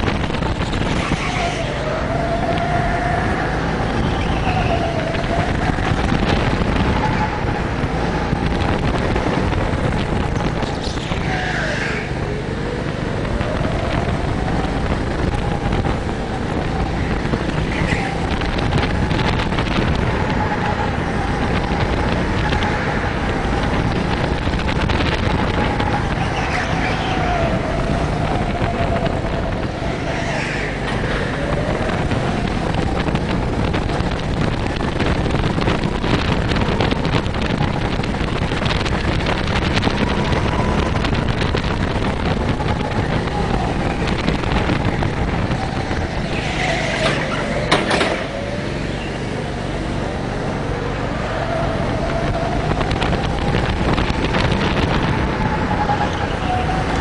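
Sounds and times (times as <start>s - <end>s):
wind noise on microphone: 0.0s - 57.0s
go-kart motor revving: 0.2s - 57.0s.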